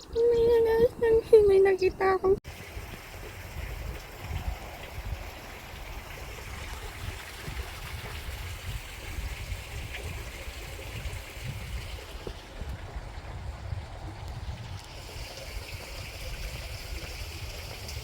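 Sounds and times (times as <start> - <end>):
stream water trickling: 2.4 - 18.0.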